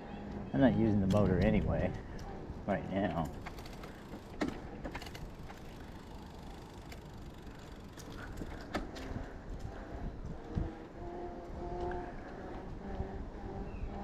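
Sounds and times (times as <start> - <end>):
low rushing noise of riding: 0.0 - 14.0.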